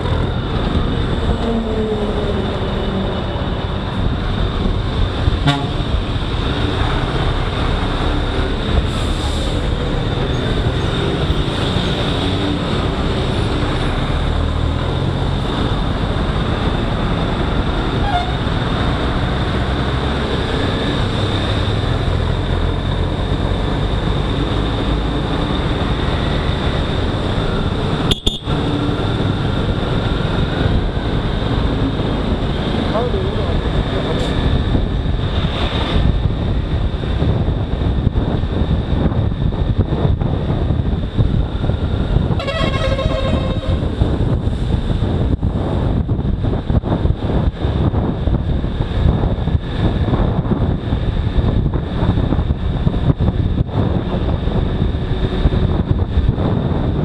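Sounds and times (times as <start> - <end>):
motorcycle engine and road noise: 0.0 - 57.0.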